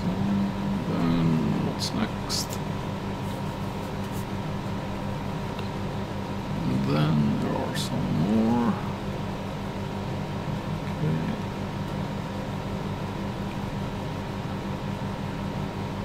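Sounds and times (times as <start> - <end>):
fan hum: 0.0 - 16.0.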